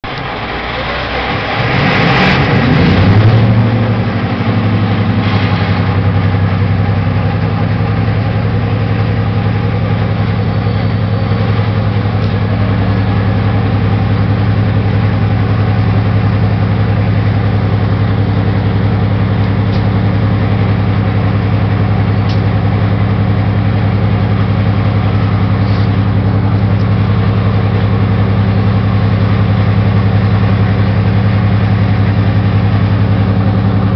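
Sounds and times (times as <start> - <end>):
diesel locomotive engine starting and idling: 0.0 - 33.9.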